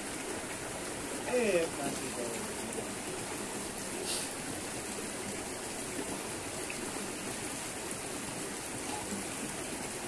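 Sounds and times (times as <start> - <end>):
river water over rocks: 0.0 - 10.0.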